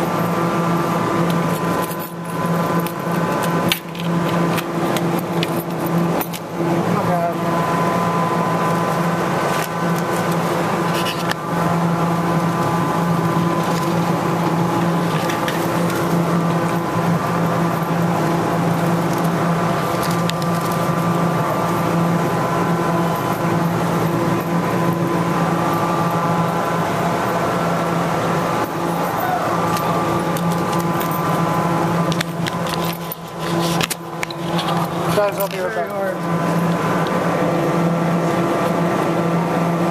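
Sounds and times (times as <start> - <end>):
claw machine electrical hum: 0.0 - 39.9.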